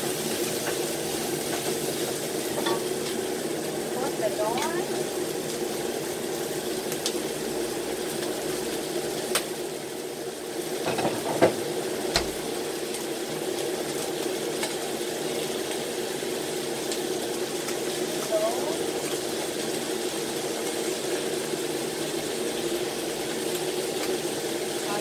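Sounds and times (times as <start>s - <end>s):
chicken wings sizzling: 0.0s - 25.0s.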